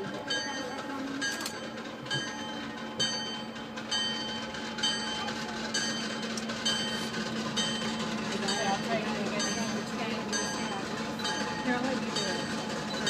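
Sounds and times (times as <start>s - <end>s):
train wheels clacking on rail joints: 0.0s - 13.0s.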